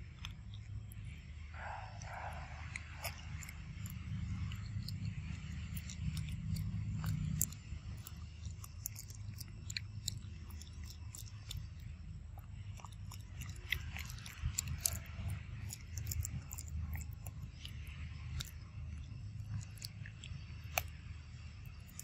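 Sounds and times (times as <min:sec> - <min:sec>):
low steady rumble: 0:00.0 - 0:22.0
monkey chewing peanuts: 0:00.0 - 0:22.0.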